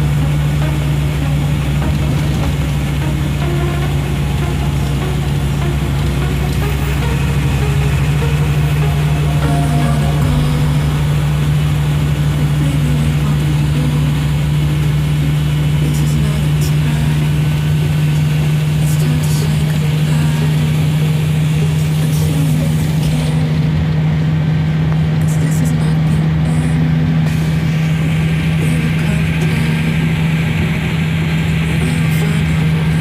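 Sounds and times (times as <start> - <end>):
motor droning: 0.0 - 33.0.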